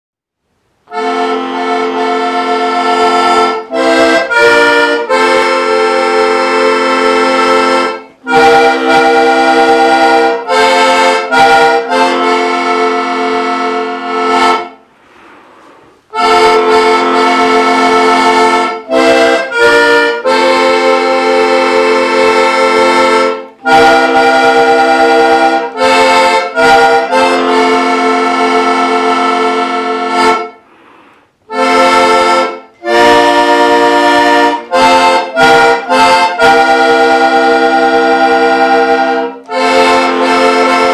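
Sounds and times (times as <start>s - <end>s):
button accordion playing folk tune: 0.8s - 40.9s.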